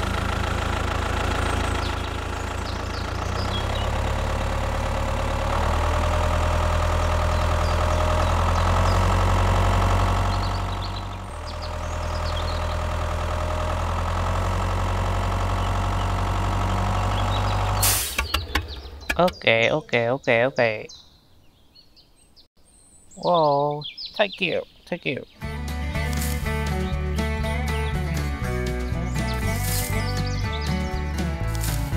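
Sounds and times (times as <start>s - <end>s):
tractor engine idling: 0.0s - 20.0s, 25.4s - 31.9s.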